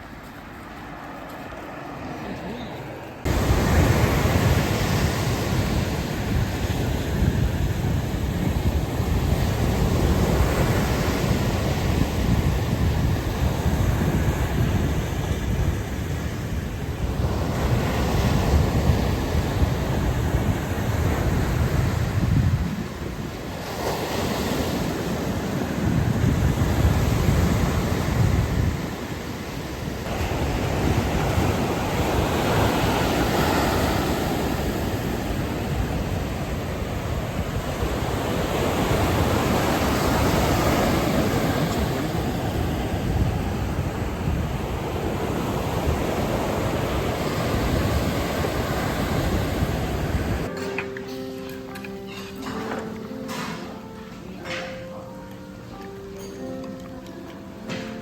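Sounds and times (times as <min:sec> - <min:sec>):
wind buffeting the microphone: 0:00.0 - 0:50.5
sea waves washing onto beach: 0:00.0 - 0:50.6.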